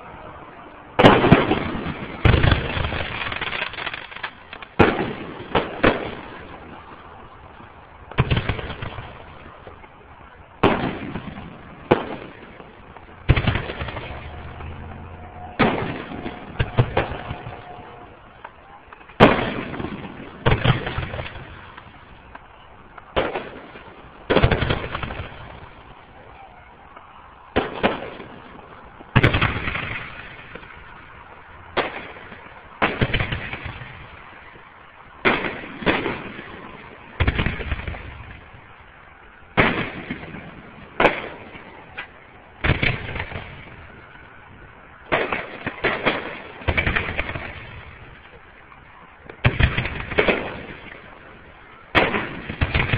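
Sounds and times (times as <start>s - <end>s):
firework shells booming: 0.9s - 52.9s.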